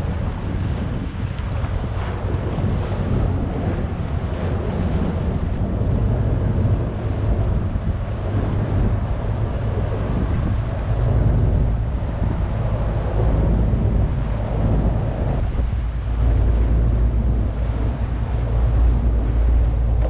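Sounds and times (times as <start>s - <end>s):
steady low rumble: 0.0s - 20.0s
wind buffeting microphone: 0.0s - 20.0s.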